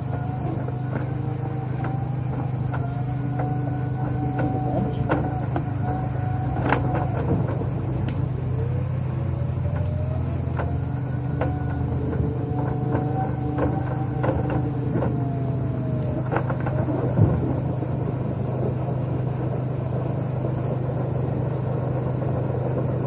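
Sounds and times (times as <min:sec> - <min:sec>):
cleaning equipment humming: 0:00.0 - 0:23.0.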